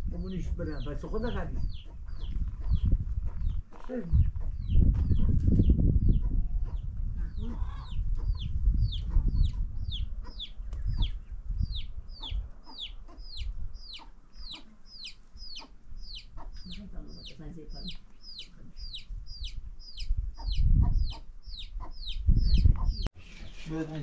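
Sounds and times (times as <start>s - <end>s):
chick peeping: 0.7s - 23.1s.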